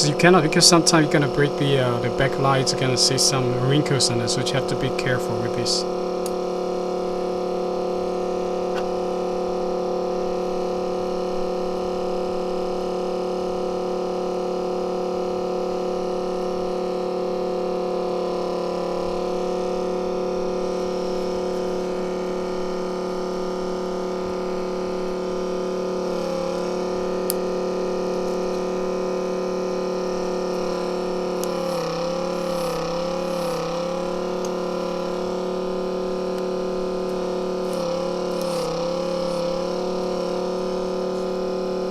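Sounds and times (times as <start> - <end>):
electrical machine hum: 0.0 - 41.9.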